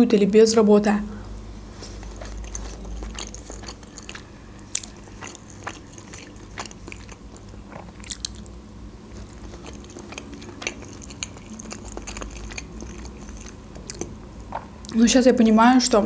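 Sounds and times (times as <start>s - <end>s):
close chewing with clicks and smacks: 1.8s - 15.0s.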